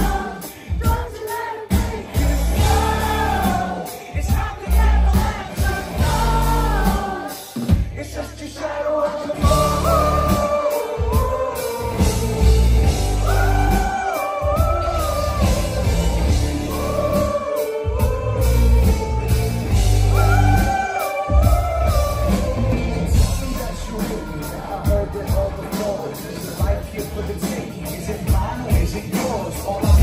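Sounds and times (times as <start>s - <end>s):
loud live band music: 0.0s - 30.0s
person singing: 0.0s - 30.0s.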